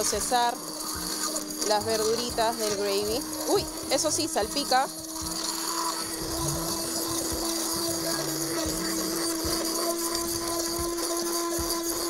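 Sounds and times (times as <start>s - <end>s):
immersion blender running: 0.0s - 12.0s.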